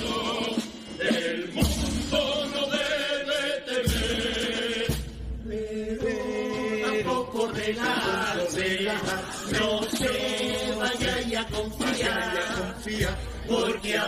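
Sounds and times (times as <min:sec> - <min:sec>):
men singing in unison: 0:00.0 - 0:14.0.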